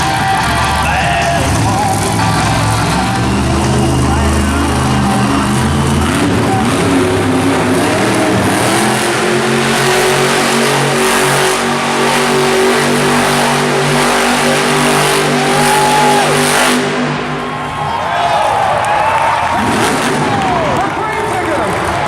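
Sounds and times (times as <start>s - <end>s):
truck engine revving loudly: 0.0s - 21.9s.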